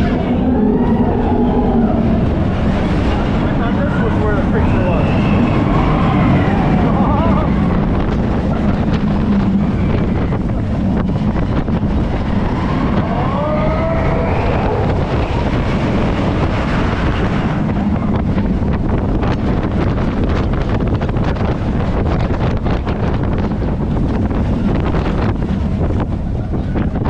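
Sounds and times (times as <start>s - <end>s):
roller coaster rumbling on track: 0.0s - 27.0s
wind buffeting microphone: 0.0s - 27.0s.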